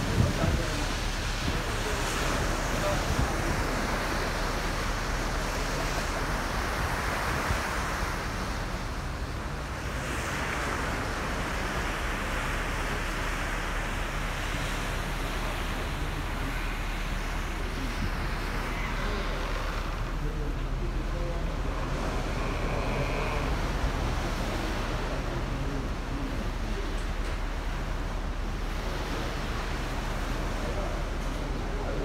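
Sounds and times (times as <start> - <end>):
water rushing along ferry hull: 0.0 - 32.0
wind rumbling on microphone: 0.0 - 32.0.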